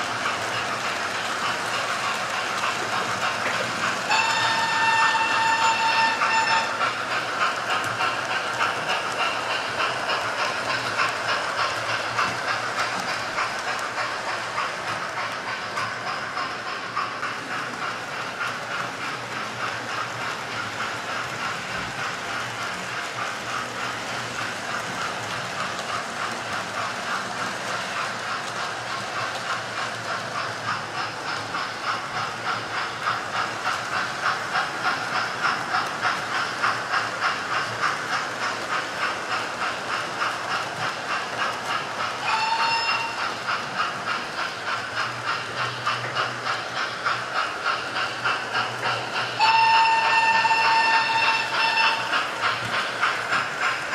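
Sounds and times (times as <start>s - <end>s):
model trains clattering: 0.0s - 53.9s.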